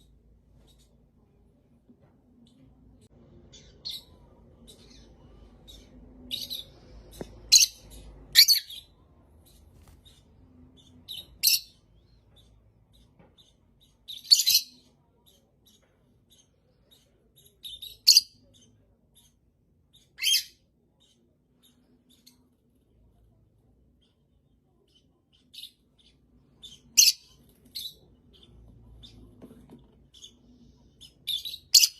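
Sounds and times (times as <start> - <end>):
faint chirps: 0.0 - 31.9.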